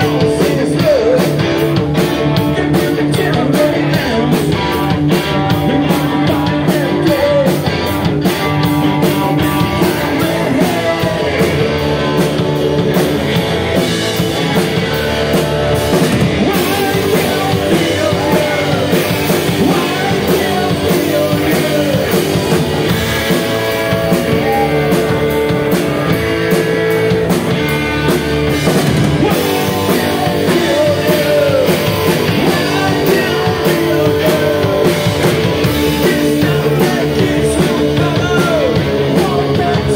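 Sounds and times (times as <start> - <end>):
man singing: 0.0 - 15.0, 15.9 - 26.2, 28.9 - 39.9
drum kit beat: 0.0 - 39.9
electric bass: 0.0 - 39.9
electric guitars: 0.0 - 39.9.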